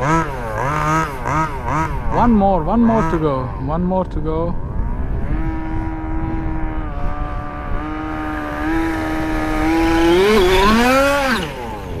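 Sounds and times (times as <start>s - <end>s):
small two-stroke engine revving: 0.0s - 12.0s.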